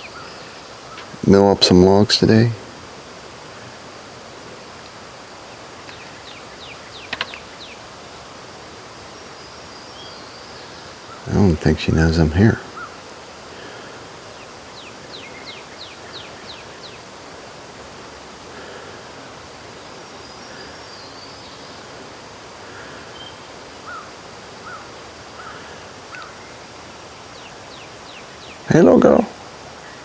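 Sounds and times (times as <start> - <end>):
birds chirping: 0.0 - 30.0
steady hiss: 0.0 - 30.0.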